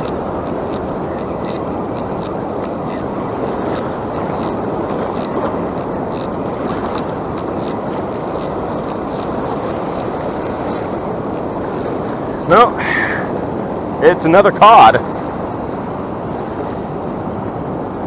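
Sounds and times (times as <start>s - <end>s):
fishing reel ticking: 0.0s - 18.0s
surf: 0.0s - 18.0s
wind: 0.0s - 18.0s.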